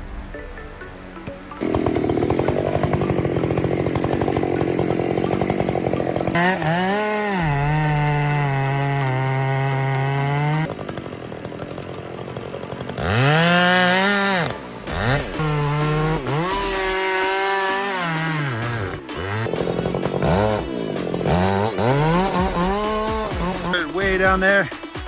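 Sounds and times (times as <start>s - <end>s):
chainsaw cutting wood: 1.2s - 25.0s.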